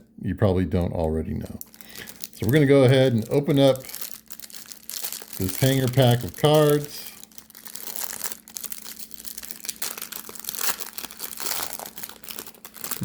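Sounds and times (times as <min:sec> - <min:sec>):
packaging torn and crinkled: 0:01.4 - 0:13.0.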